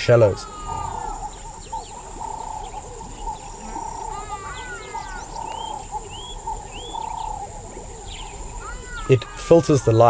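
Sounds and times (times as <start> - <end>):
frogs calling: 0.0 - 10.0
high insect whine: 0.0 - 10.0
rising bird whistles: 0.0 - 10.0.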